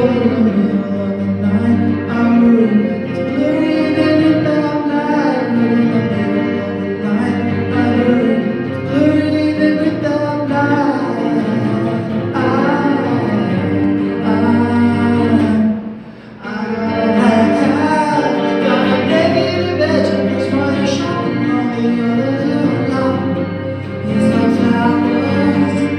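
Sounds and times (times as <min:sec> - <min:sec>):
guitar accompaniment: 0:00.0 - 0:25.9
person singing: 0:00.0 - 0:25.9.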